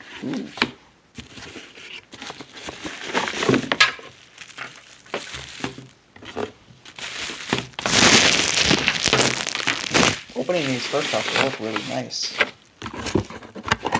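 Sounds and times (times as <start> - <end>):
plastic packaging crinkling: 1.2 - 13.7.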